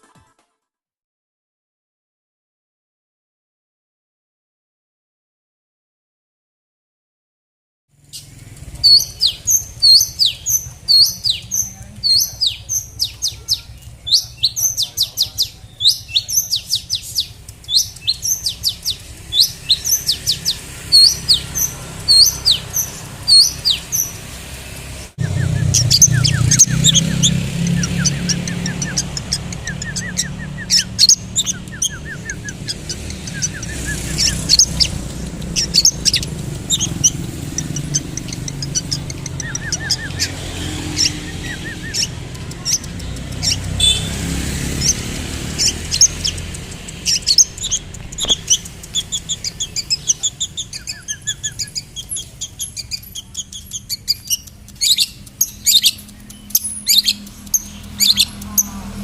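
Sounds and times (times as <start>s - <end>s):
bird chirping and trilling: 8.0s - 59.0s.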